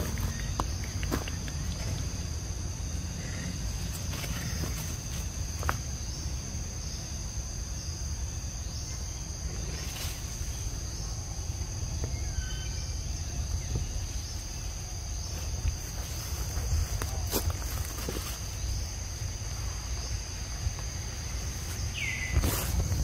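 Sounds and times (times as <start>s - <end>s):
high-pitched insect drone: 0.0s - 23.0s.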